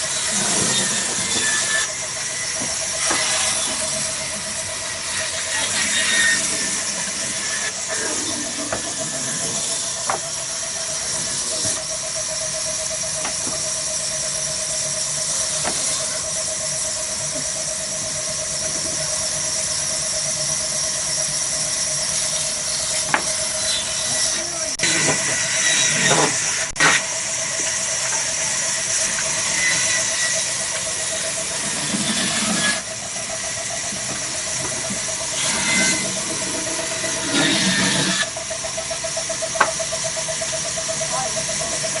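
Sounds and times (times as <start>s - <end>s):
diesel engine running: 0.0s - 42.0s
steady squeal: 0.0s - 42.0s.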